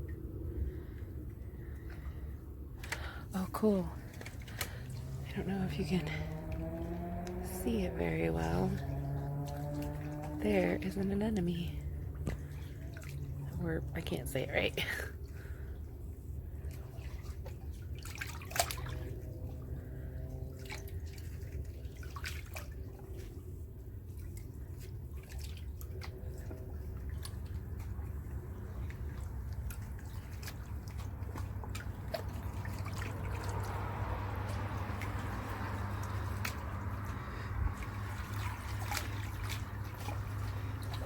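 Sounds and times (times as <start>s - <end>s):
steady low rumble: 0.0s - 41.0s
water trickling: 0.0s - 41.0s
water dripping: 1.6s - 41.0s.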